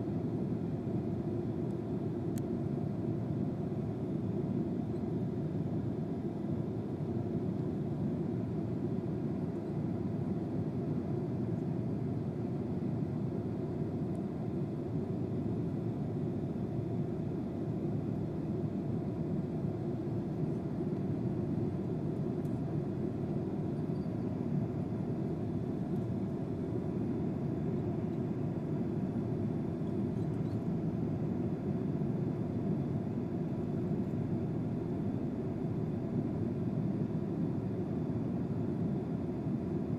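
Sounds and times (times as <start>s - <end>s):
airliner cabin noise: 0.1s - 39.9s.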